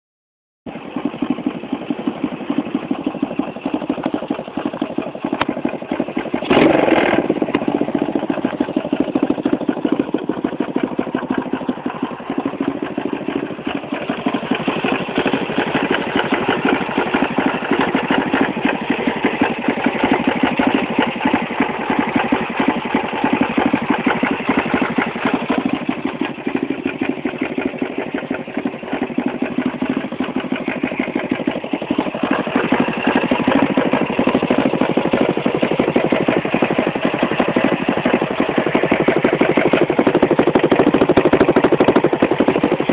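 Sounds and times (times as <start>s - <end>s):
motorbike engine fast idle: 0.7s - 42.9s.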